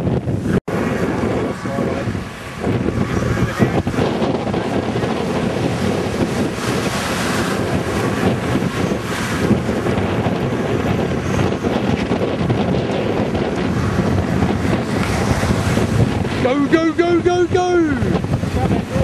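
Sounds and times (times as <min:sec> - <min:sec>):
surf breaking on beach: 0:00.0 - 0:19.0
wind buffeting microphone: 0:00.0 - 0:19.0
vehicle engine driving through sand: 0:00.1 - 0:19.0.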